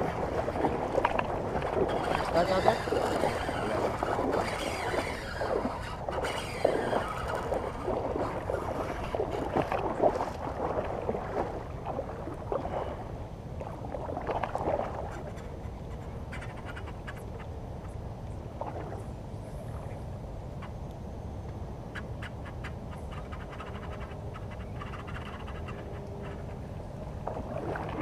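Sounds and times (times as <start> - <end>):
water lapping against boat hull: 0.0 - 20.7, 22.2 - 28.0.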